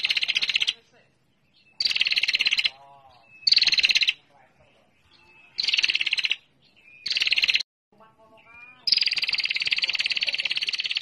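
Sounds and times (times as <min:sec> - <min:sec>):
bird trilling call: 0:00.0 - 0:00.8, 0:01.4 - 0:07.6, 0:08.4 - 0:11.0.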